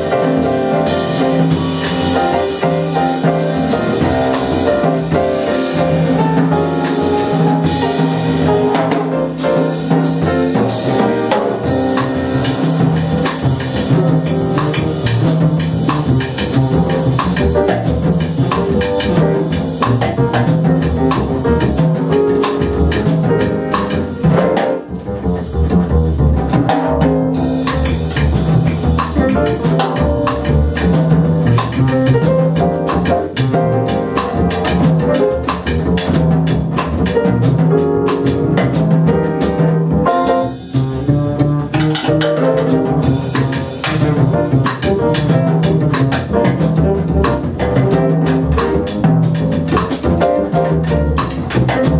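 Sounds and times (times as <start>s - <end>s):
acoustic piano: 0.0s - 51.9s
drum kit: 0.0s - 51.9s
plucked double bass: 0.0s - 51.9s.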